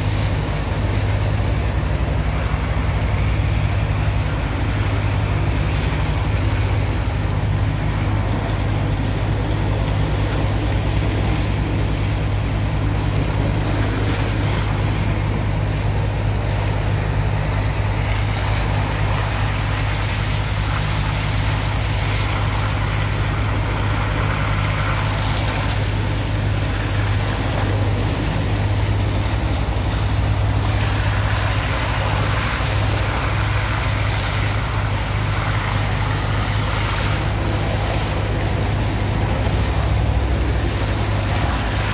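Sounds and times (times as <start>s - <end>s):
pump engine droning: 0.0s - 41.9s
water hose jet splashing: 0.0s - 41.9s.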